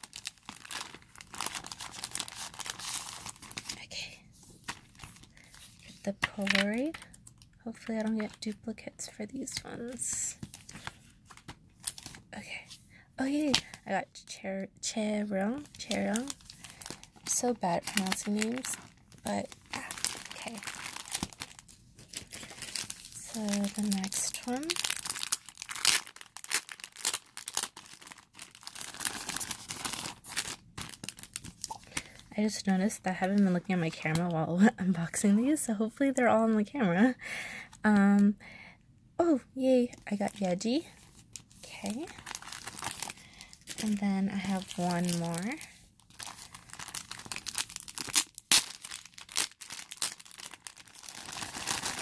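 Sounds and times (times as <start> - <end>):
plastic packaging crinkling: 0.0 - 12.4, 15.3 - 34.4, 39.9 - 52.0.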